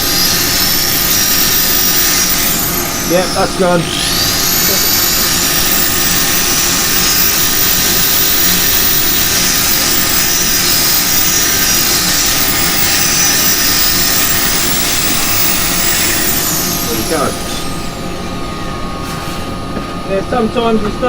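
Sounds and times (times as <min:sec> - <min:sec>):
wood lathe running with whine: 0:00.0 - 0:19.0.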